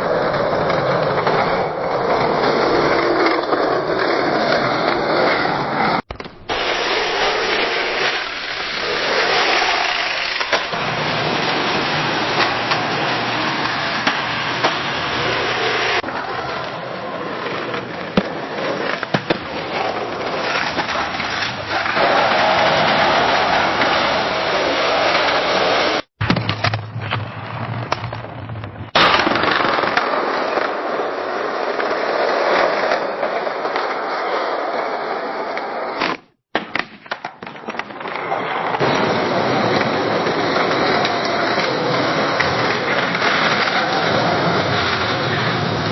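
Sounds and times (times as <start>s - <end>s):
skateboard clacks: 0.0s - 45.9s
skateboard wheels rolling on pavement: 0.0s - 45.9s.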